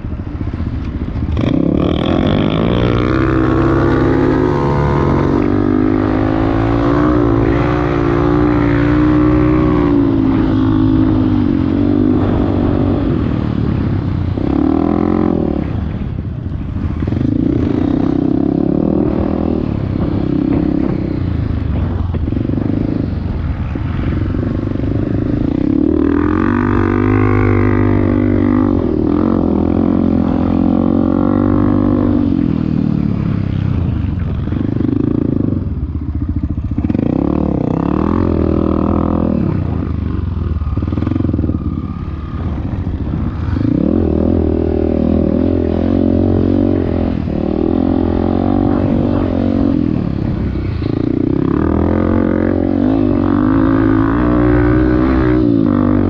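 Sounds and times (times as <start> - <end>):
off-road motorcycle revving: 0.0 - 56.0.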